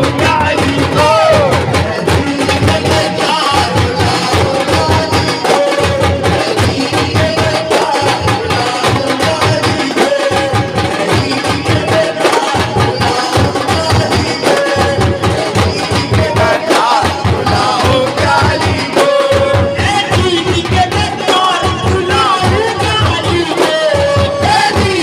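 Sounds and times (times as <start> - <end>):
frame drums beating: 0.0 - 25.0
man singing into microphone: 0.0 - 25.0.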